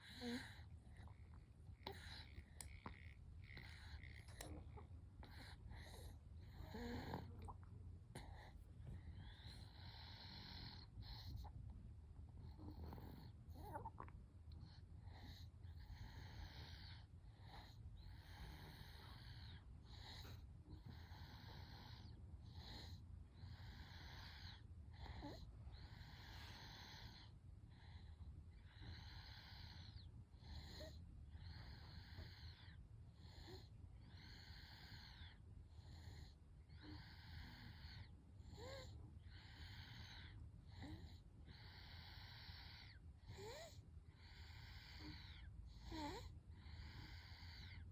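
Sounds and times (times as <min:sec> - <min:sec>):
baby snoring softly: 0:00.0 - 0:01.2, 0:01.8 - 0:11.6, 0:12.4 - 0:14.0, 0:14.7 - 0:47.9.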